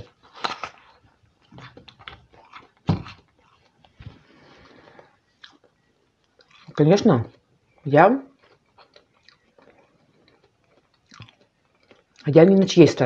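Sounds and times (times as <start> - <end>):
fruit being bitten and chewed: 0.0 - 12.6.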